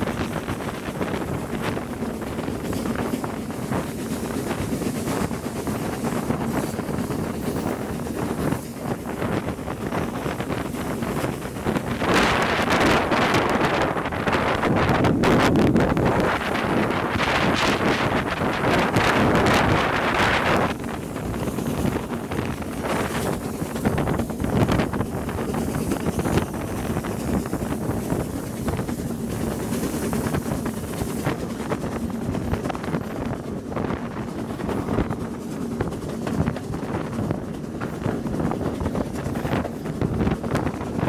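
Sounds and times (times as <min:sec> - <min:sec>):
train rumbling: 0:00.0 - 0:41.0
wind buffeting microphone: 0:00.0 - 0:41.0.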